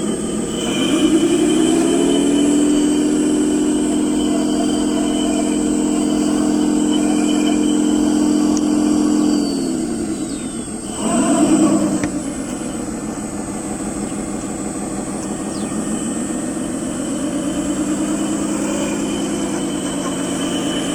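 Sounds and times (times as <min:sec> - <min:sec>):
model motor running: 0:00.0 - 0:20.9.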